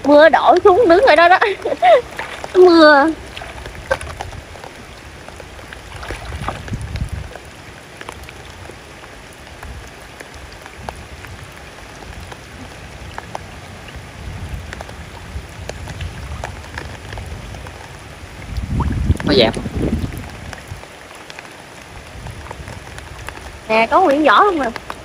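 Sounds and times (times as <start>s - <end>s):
sharp raindrop ticks: 0.0s - 25.0s
steady hiss of rain: 0.0s - 25.0s.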